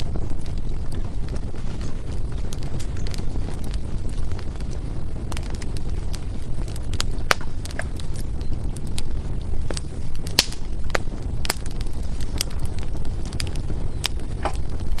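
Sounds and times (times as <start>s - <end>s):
logs popping and snapping: 0.0s - 4.7s, 5.3s - 15.0s
low rumble of flames: 0.0s - 15.0s
wood fire crackling: 0.0s - 15.0s.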